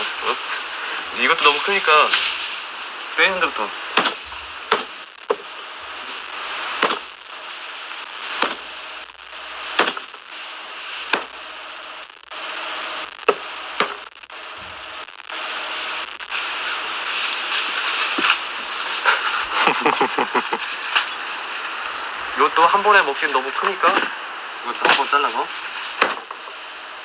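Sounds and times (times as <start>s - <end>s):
steady hiss: 0.0s - 13.6s, 14.3s - 27.0s.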